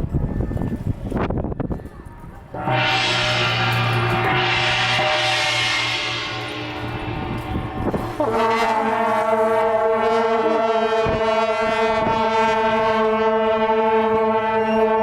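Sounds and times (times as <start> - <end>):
horn long steady note: 2.6 - 15.0.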